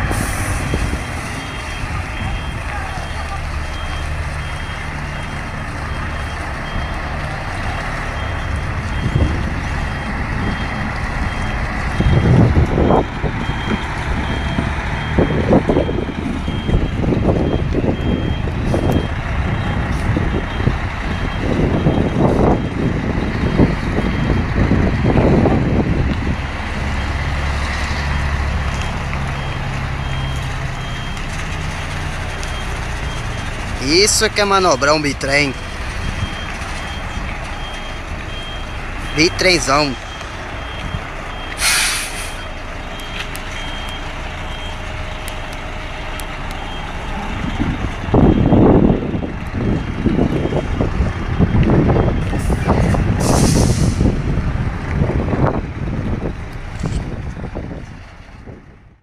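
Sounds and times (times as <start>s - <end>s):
truck diesel engine running: 0.0s - 59.0s
reversing alarm beeping: 0.1s - 25.4s, 26.8s - 45.4s, 46.2s - 54.1s.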